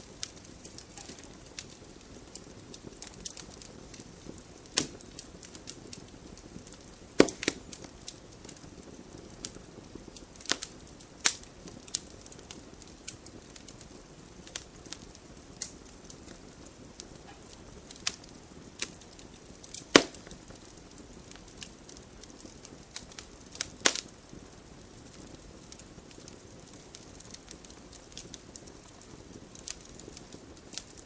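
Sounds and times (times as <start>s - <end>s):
low fire hiss: 0.0s - 31.0s
wood fire popping and snapping: 0.0s - 31.0s.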